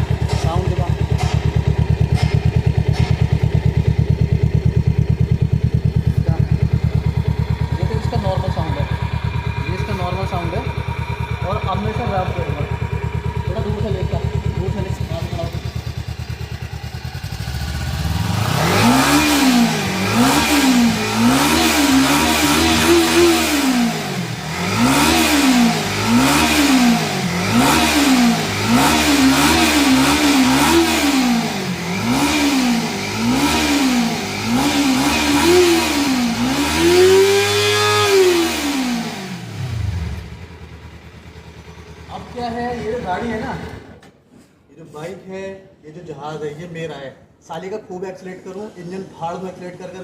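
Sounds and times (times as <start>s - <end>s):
motorcycle engine revving: 0.0s - 44.1s.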